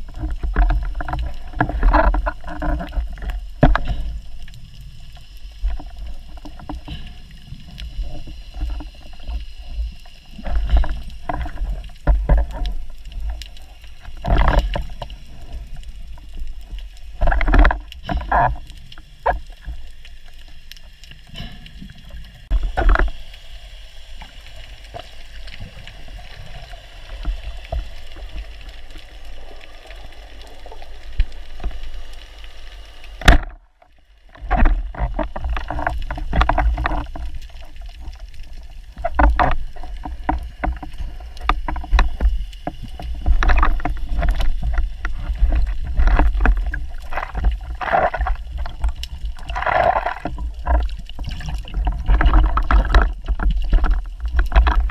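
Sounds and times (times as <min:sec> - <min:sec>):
underwater rumble of moving water: 0:00.0 - 0:54.9.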